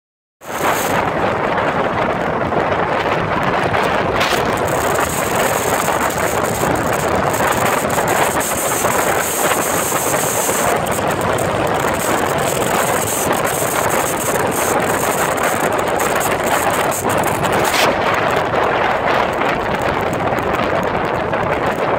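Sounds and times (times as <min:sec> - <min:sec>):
wind buffeting microphone: 0:00.4 - 0:21.9
motorcycles running: 0:00.5 - 0:21.9.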